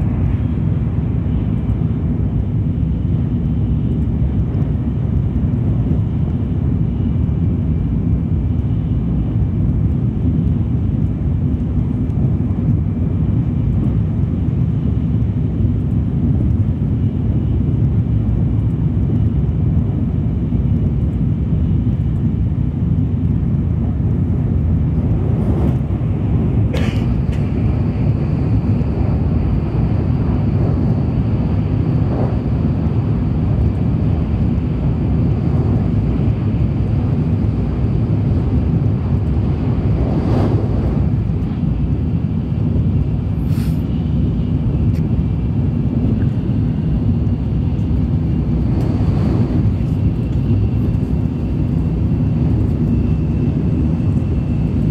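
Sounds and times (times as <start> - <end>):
train interior rumble: 0.0 - 20.0, 20.6 - 54.9.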